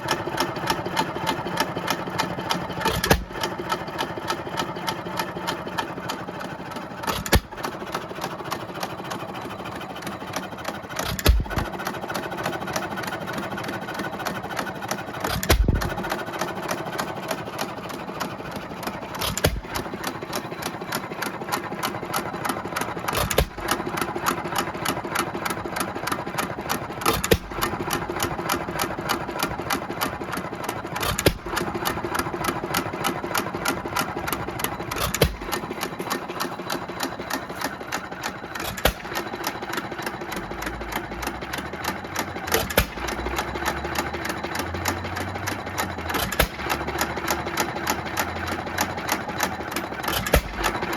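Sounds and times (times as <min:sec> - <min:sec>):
engine firing stroke: 0:00.0 - 0:50.9
engine mechanical clatter: 0:00.0 - 0:50.9.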